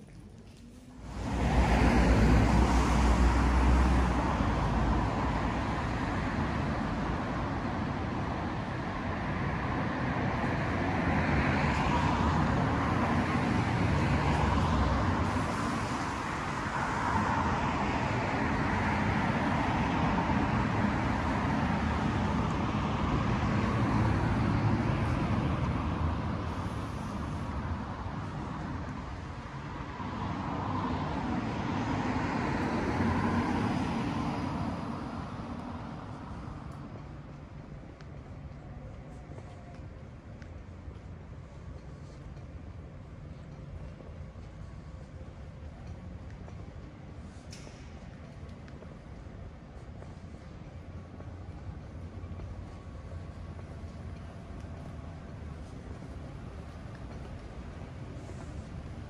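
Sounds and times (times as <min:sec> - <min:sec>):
cars passing: 0:00.0 - 0:59.0.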